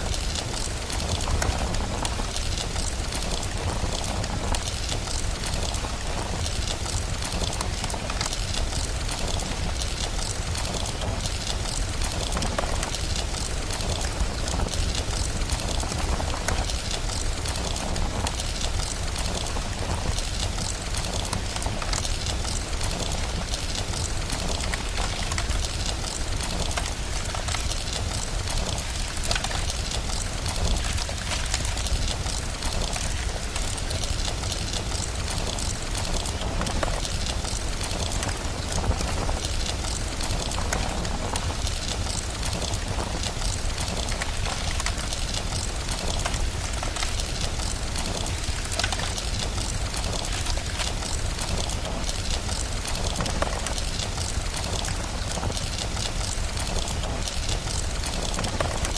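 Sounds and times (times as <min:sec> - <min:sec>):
rain hiss: 0:00.0 - 0:58.9
wood fire crackling: 0:00.0 - 0:58.9.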